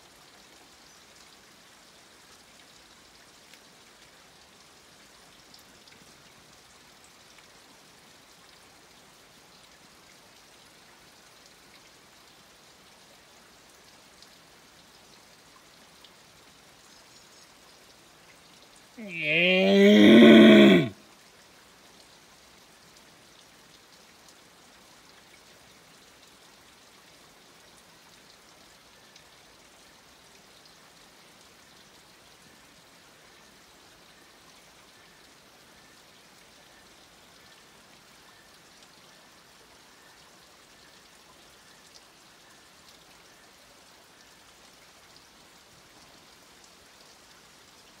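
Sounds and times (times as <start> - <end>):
light rain pattering and dripping: 0.0 - 48.0.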